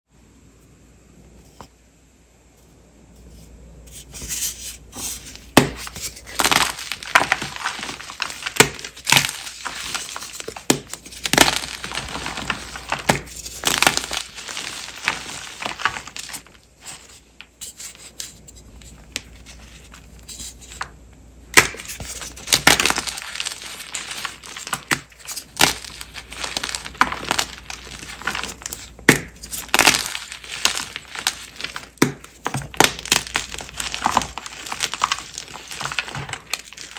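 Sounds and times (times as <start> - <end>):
chalk being crushed by hand: 3.9 - 20.9, 21.5 - 36.9.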